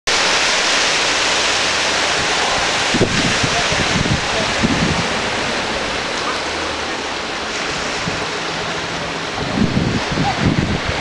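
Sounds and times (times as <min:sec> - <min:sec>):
sea water washing: 0:00.1 - 0:11.0.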